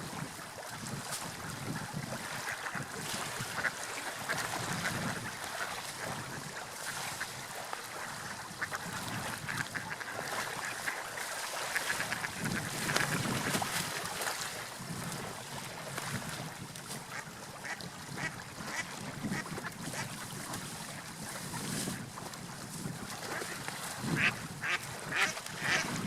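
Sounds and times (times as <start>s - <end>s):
water lapping and splashing: 0.0s - 26.0s.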